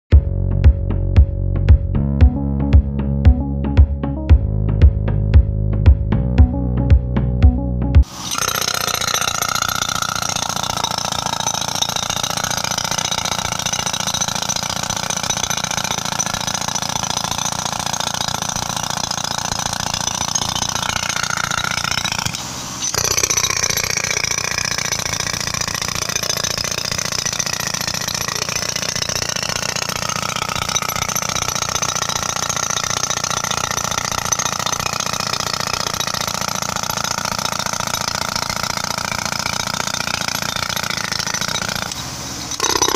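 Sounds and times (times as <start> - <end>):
jackhammer hammering asphalt: 8.0 - 42.9.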